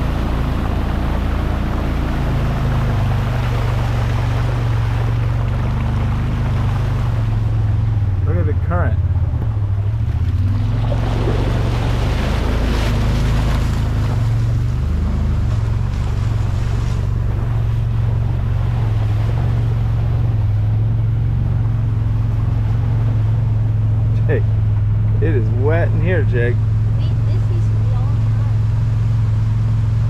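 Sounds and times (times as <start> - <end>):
vehicle engine running: 0.0 - 30.0
water splashing under tyres: 0.0 - 30.0.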